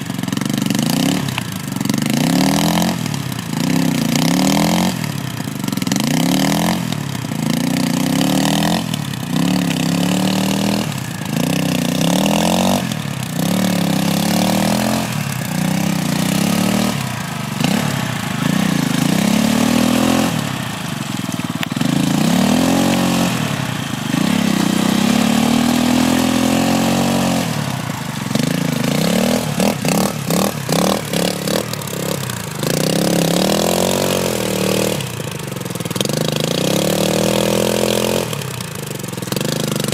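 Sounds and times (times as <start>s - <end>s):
quad engine revving: 0.0s - 39.9s
wheels spinning in sand: 0.0s - 39.9s.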